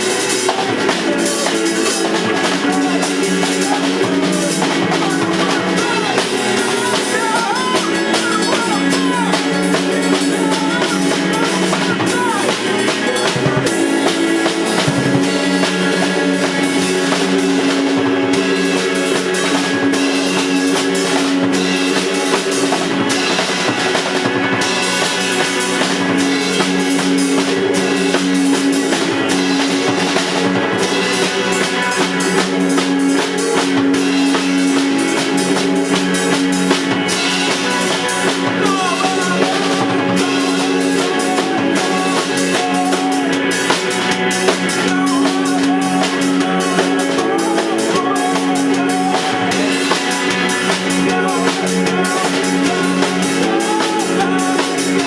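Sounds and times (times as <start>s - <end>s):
drum kit beat: 0.0s - 55.0s
held low notes: 0.0s - 55.0s.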